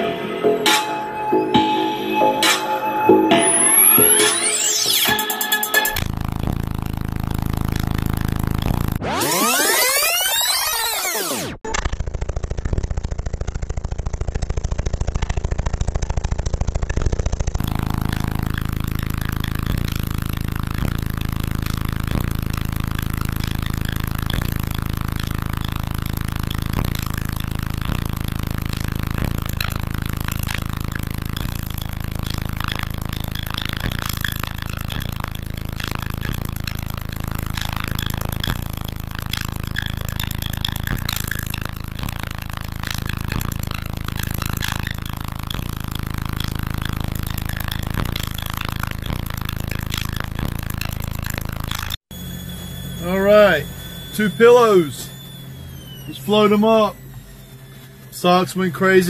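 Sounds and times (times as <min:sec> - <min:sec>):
deep bass tone from subwoofers: 0:05.9 - 0:59.0.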